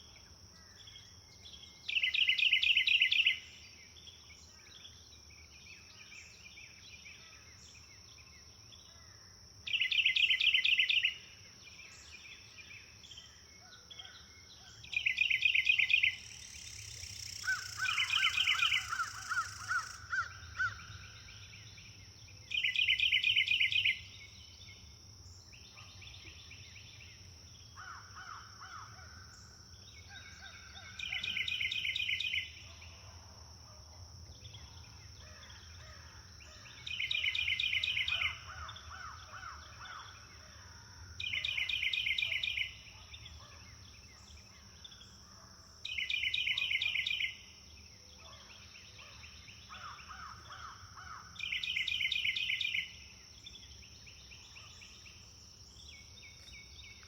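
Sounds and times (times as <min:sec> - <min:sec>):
birds with lower trills: 0:00.0 - 0:33.1, 0:34.4 - 0:57.0.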